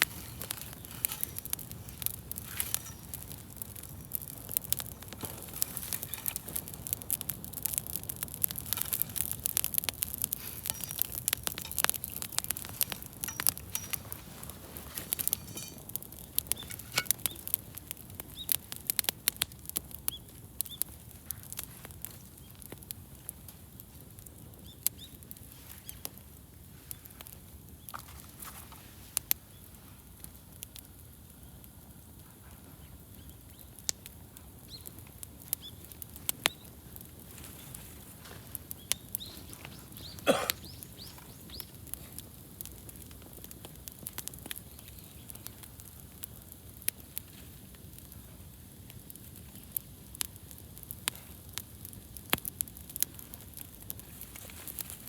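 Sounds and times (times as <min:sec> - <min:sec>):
campfire crackling and popping: 0:00.0 - 0:55.0
low rumble of burning: 0:00.0 - 0:55.0.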